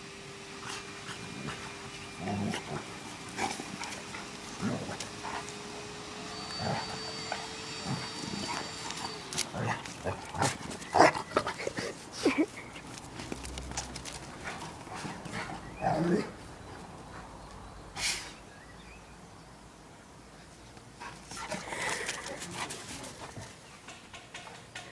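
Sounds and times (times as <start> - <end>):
dogs playing and vocalizing: 0.4 - 18.4, 20.1 - 24.9.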